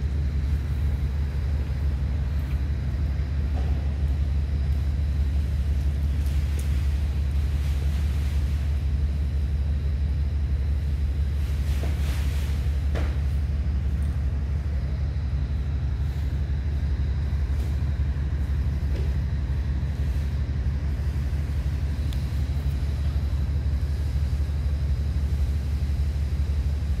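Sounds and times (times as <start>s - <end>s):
low machine rumble: 0.0s - 27.0s.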